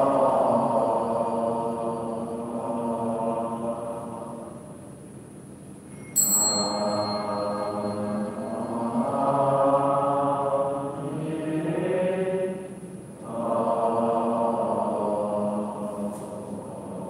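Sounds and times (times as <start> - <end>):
devotional chanting in held notes: 0.0 - 5.0, 6.4 - 17.0.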